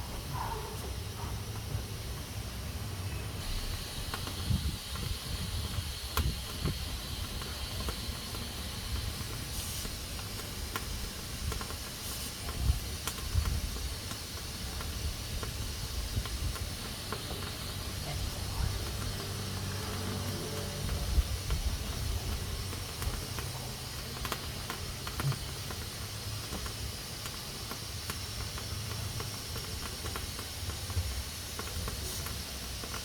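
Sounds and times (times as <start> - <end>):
pressure cooker steam hissing: 0.0 - 33.0.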